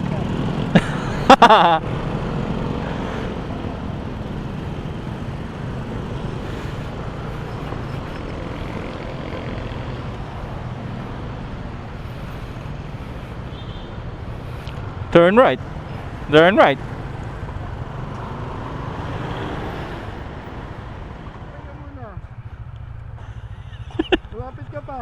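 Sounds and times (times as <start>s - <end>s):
motor scooter engine hum: 0.0s - 24.9s
road and wind noise: 0.0s - 25.0s.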